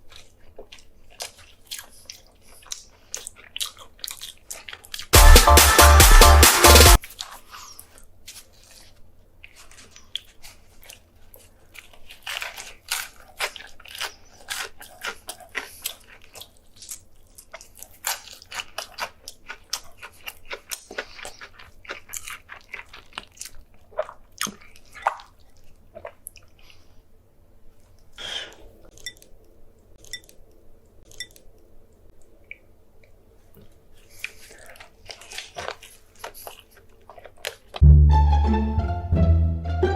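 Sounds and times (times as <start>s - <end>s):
person chewing and crunching food: 0.0s - 37.9s.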